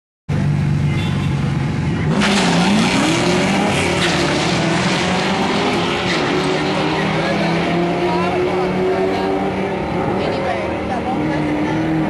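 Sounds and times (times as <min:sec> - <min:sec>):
car engine revving: 0:01.4 - 0:12.0
loud rushing noise: 0:01.9 - 0:12.0.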